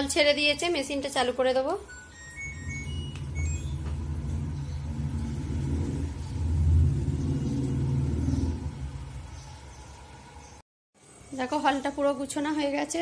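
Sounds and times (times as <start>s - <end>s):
washing machine rumble: 0.0s - 10.6s.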